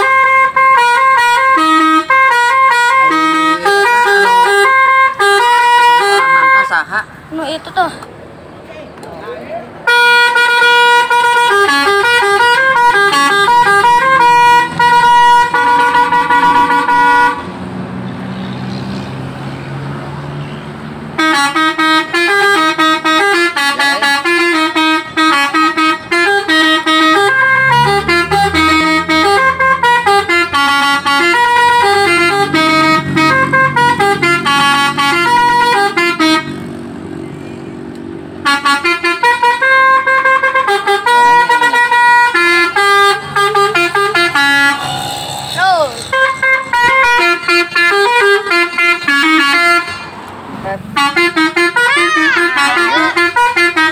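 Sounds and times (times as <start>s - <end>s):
musical air horn melodies: 0.0s - 6.7s, 9.8s - 17.5s, 21.2s - 36.7s, 38.4s - 50.3s, 50.9s - 53.9s.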